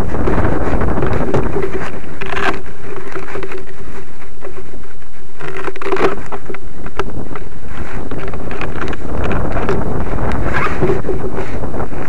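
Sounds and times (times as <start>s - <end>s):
brief rustles: 0.0s - 12.0s
steady hum: 0.0s - 12.0s
wind buffeting microphone: 0.0s - 12.0s.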